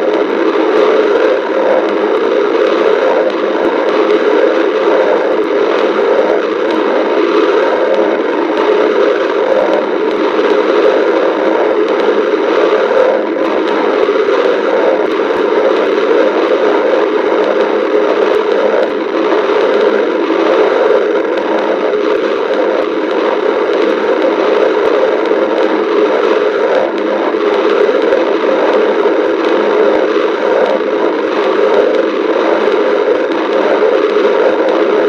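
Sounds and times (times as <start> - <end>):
stomach growling: 0.0 - 35.0.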